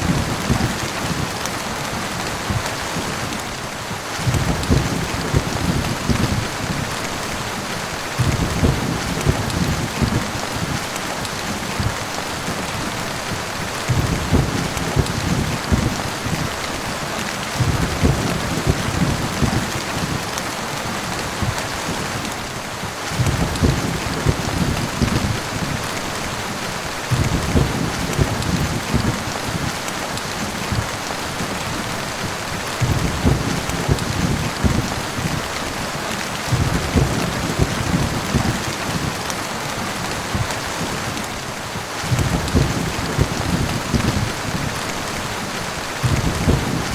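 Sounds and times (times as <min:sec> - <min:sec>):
thunder rumbling: 0:00.0 - 0:20.3, 0:23.0 - 0:46.9
heavy rain falling: 0:00.0 - 0:46.9.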